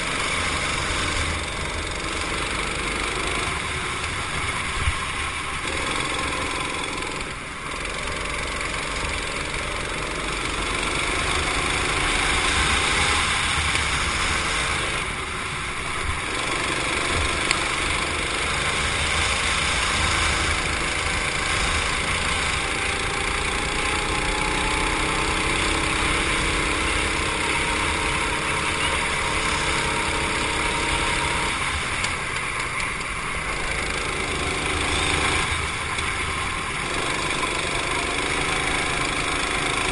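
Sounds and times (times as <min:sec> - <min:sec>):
go-kart engine running hard: 0:00.0 - 0:39.9
wind and track rumble: 0:00.0 - 0:39.9.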